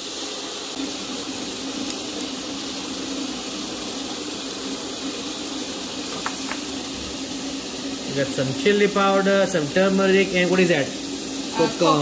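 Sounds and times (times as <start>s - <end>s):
fan hiss with low hum: 0.0s - 12.0s.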